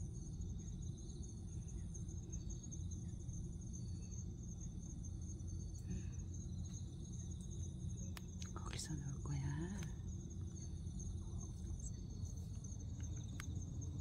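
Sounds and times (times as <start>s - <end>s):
insects trilling: 0.0s - 14.0s
low steady rumble: 0.0s - 14.0s.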